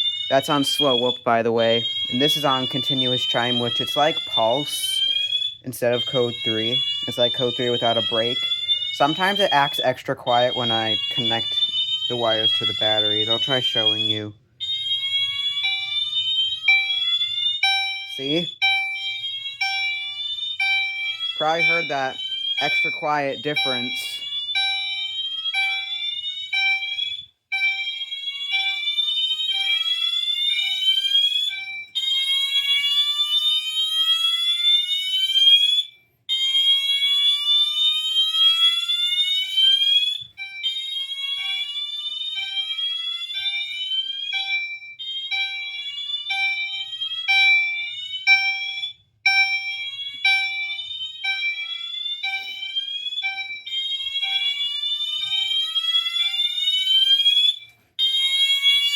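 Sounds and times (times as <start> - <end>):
fire alarm chime pulsing: 0.0 - 58.9
fire alarm horn slow whoop: 0.0 - 58.9.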